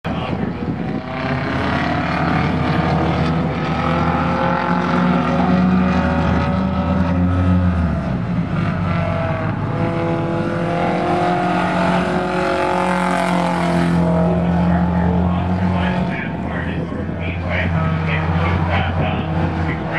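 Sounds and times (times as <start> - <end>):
race car engines running: 0.1 - 19.9.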